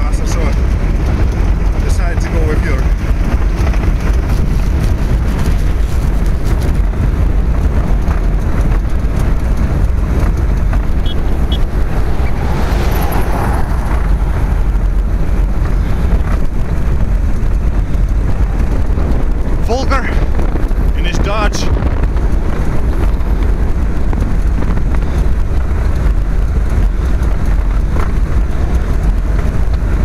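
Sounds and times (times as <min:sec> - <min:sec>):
road noise: 0:00.0 - 0:30.0
wind buffeting microphone: 0:00.0 - 0:30.0.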